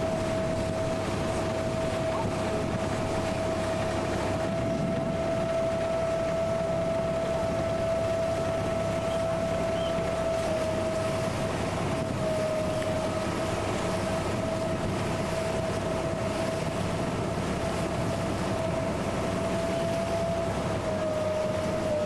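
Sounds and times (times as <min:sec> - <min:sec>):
boat engine droning: 0:00.0 - 0:22.0
steady whining tone: 0:00.0 - 0:22.0.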